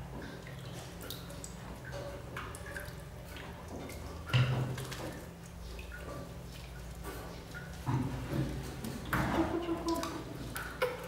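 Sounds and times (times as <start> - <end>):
water dripping into a basin: 0.0 - 11.0.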